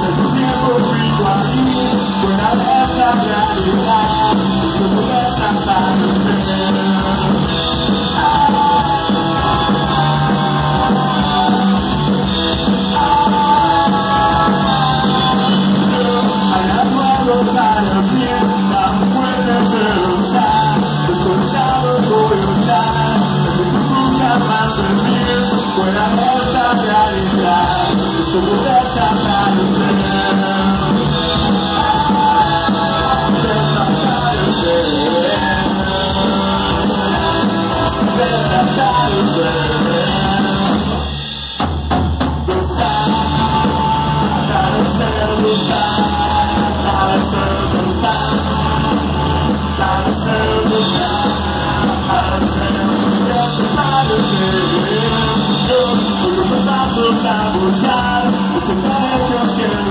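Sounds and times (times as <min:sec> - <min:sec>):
person singing: 0:00.0 - 0:41.1, 0:42.5 - 0:59.9
punk rock band playing: 0:00.0 - 0:59.9.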